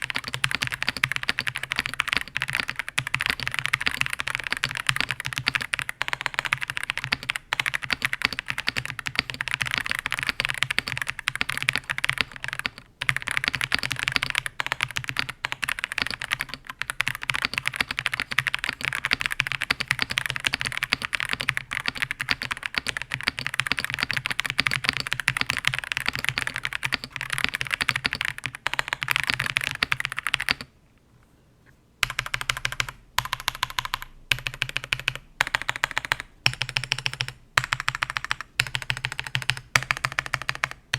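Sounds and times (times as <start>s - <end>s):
mechanical keyboard typing: 0.0s - 30.7s, 32.0s - 40.9s.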